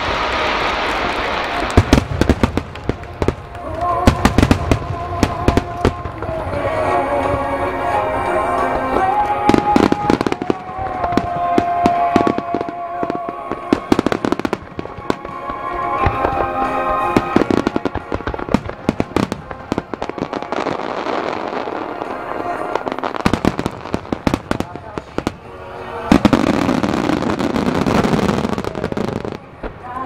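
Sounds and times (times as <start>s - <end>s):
fireworks bursting and crackling: 0.0s - 30.0s
music with held melody: 1.9s - 30.0s.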